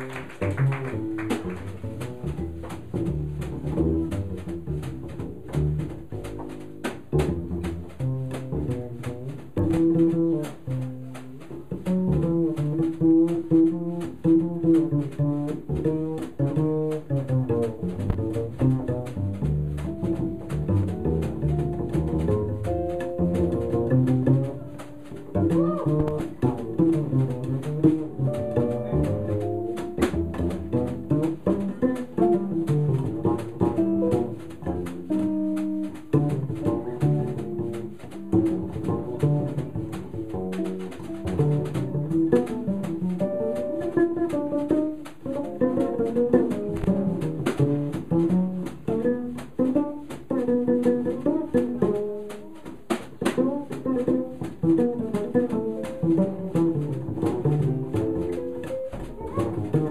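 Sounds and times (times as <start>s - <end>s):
light drums: 0.0s - 59.9s
plucked double bass: 0.0s - 59.9s.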